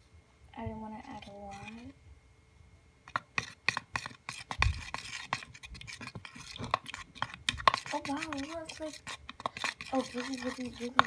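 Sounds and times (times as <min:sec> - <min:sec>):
utensil scraping a bowl: 0:01.0 - 0:02.0, 0:03.0 - 0:11.0.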